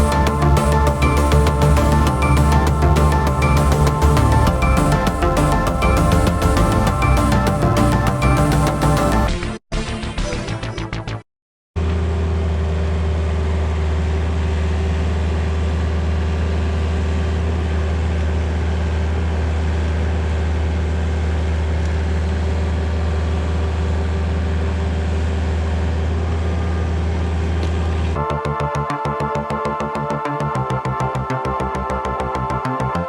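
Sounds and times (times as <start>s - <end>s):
diesel engine running: 0.0s - 9.3s, 11.8s - 30.3s.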